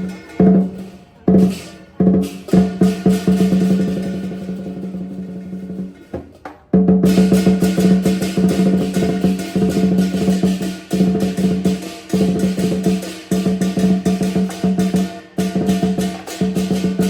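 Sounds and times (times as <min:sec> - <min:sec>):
drumming: 0:00.0 - 0:17.0.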